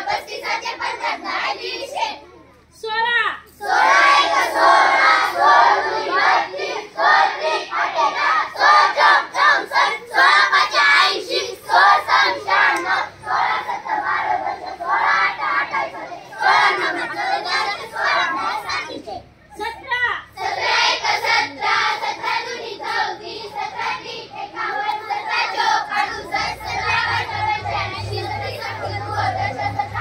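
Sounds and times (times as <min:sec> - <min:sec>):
children chanting in unison: 0:00.0 - 0:02.2, 0:03.6 - 0:19.2, 0:20.4 - 0:30.0.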